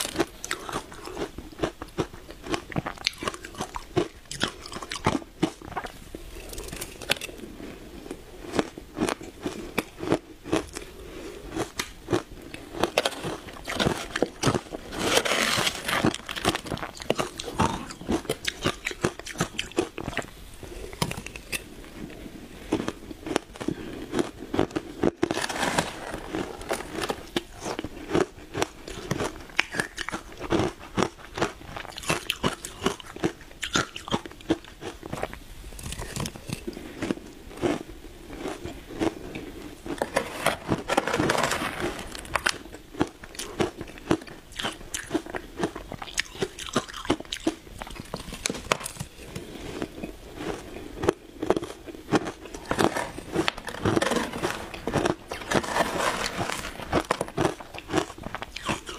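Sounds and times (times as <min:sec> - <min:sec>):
ice crunching while chewed: 0:00.0 - 0:58.9.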